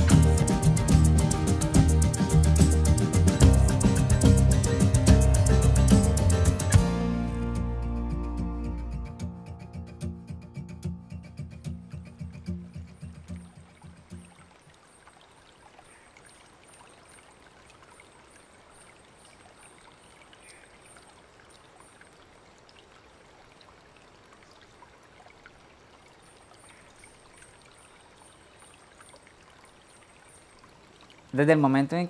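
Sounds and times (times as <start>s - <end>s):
stream water flowing: 0.0s - 7.2s, 11.5s - 32.0s.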